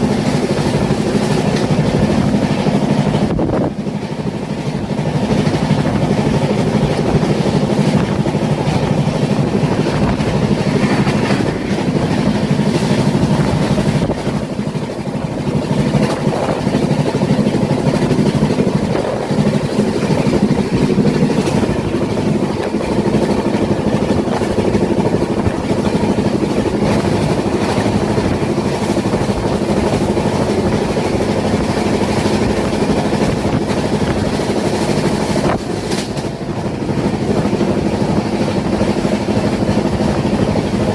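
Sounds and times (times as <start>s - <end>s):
train running: 0.0s - 40.9s.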